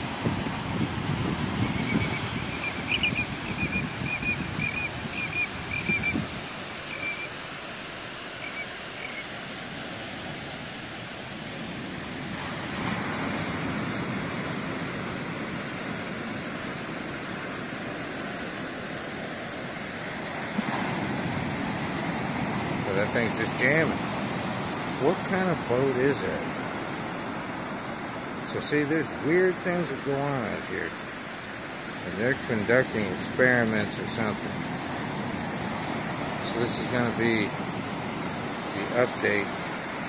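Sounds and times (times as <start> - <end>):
ocean surf washing on beach: 0.0 - 40.0.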